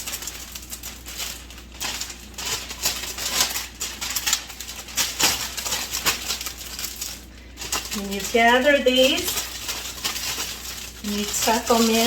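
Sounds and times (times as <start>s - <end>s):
cellophane crinkling: 0.0s - 12.0s.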